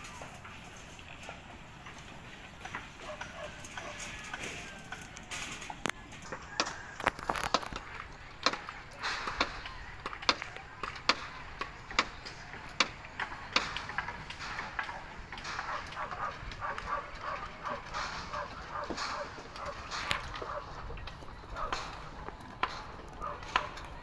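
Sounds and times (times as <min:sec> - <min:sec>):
voices talking: 0:00.0 - 0:24.0.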